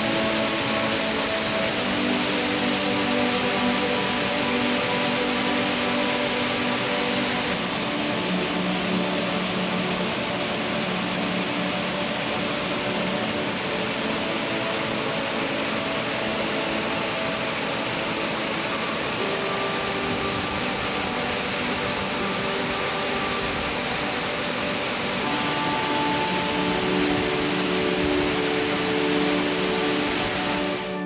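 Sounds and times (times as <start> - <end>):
soft background music chords: 0.0 - 31.0
waterfall rushing: 0.0 - 31.0.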